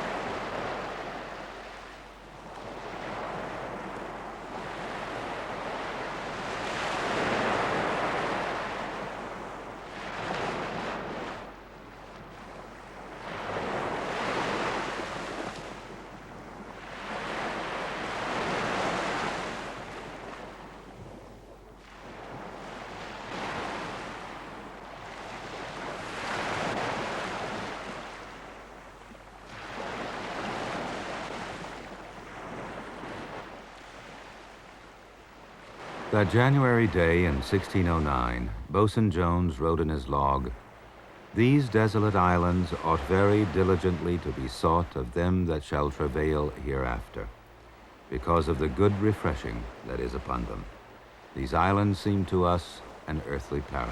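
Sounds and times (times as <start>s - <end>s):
sea waves washing onto beach: 0.0s - 53.9s.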